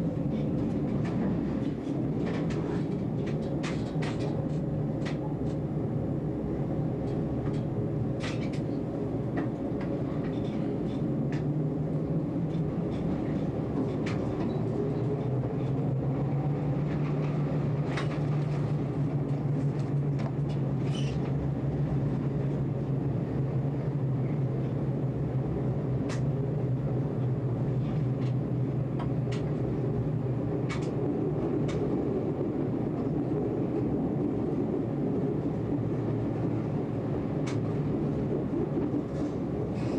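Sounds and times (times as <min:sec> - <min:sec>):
tram motor hum: 0:00.0 - 0:39.9.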